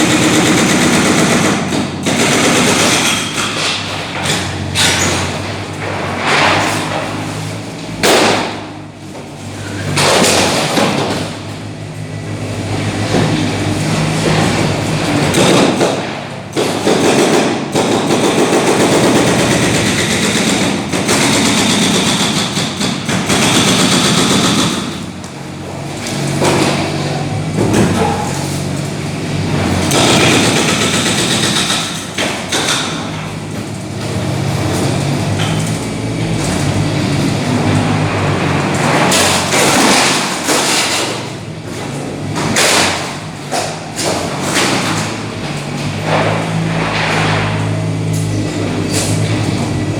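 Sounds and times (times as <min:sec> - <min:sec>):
construction machine engine running: 0:00.0 - 0:49.9
demolition thuds and knocks: 0:00.0 - 0:49.9.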